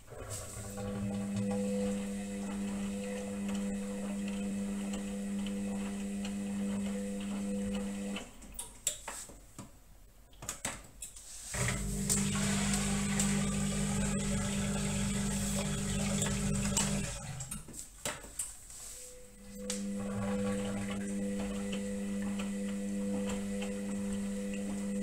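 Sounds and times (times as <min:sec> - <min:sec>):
washing machine drum motor humming: 0:00.0 - 0:08.3, 0:11.6 - 0:17.7, 0:19.3 - 0:25.0.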